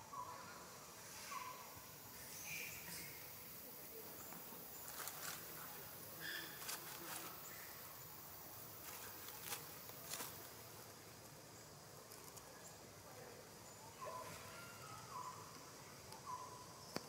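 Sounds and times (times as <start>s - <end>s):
faint insect hum: 0.0s - 17.0s.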